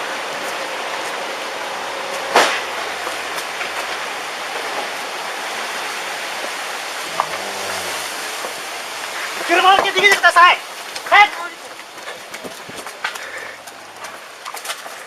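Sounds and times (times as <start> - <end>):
floodwater rushing: 0.2 - 15.0.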